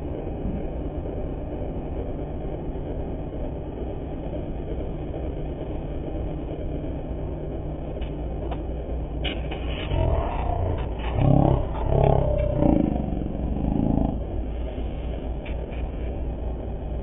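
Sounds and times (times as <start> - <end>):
heavy machine low rumble: 0.0 - 17.0.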